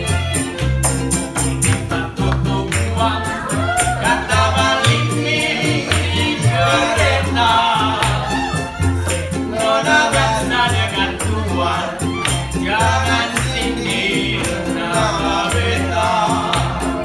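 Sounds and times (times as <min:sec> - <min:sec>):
double bass low notes: 0:00.0 - 0:17.0
rattling hand percussion: 0:00.0 - 0:17.0
ukuleles strummed: 0:00.0 - 0:17.0
other voices singing: 0:01.6 - 0:17.0
man singing: 0:01.7 - 0:08.8, 0:09.4 - 0:17.0.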